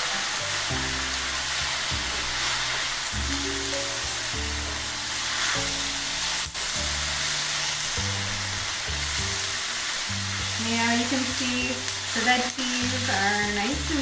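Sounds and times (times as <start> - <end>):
background music: 0.0 - 14.0
stir-fry sizzling in a pan: 0.0 - 14.0.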